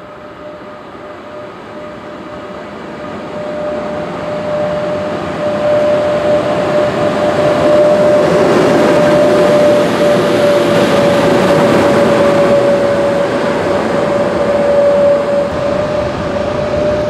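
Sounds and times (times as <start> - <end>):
electric locomotive whining: 0.0 - 17.0
wheels rumbling on rail: 0.0 - 17.0.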